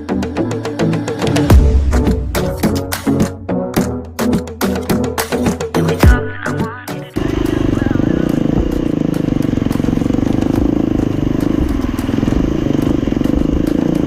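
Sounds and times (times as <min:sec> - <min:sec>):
dirt bike engine running: 0:00.2 - 0:14.0.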